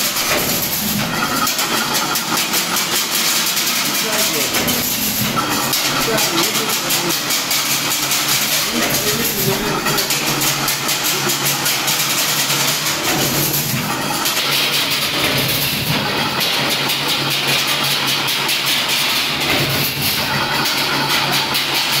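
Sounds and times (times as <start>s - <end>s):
fast even machine clatter: 0.0s - 22.0s
machine motor hum: 0.0s - 22.0s.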